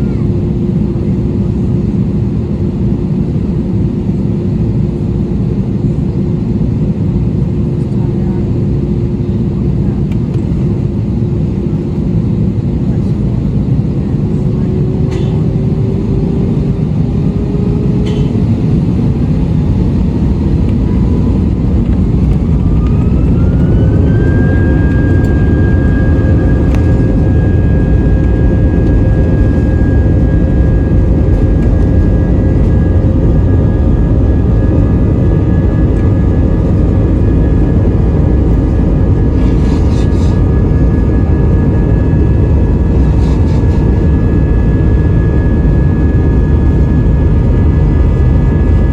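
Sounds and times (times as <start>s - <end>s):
jet engines rumbling and whining: 0.0s - 48.9s.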